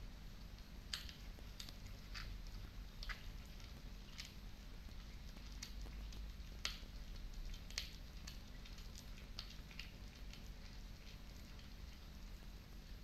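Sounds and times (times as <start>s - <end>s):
cat chewing wetly: 0.2s - 13.0s.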